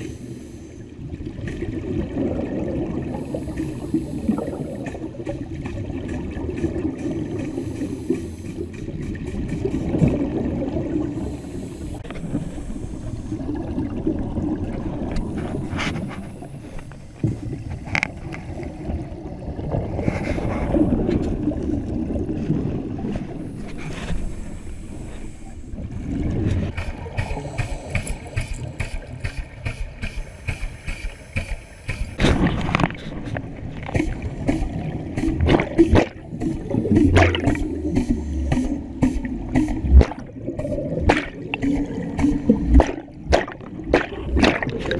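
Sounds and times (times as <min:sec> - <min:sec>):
underwater regulator bubbles: 0:00.0 - 0:44.9.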